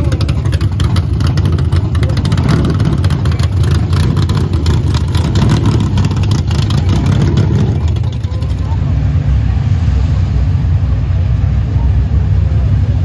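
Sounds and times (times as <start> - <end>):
race car engine rumbling: 0.0 - 13.0.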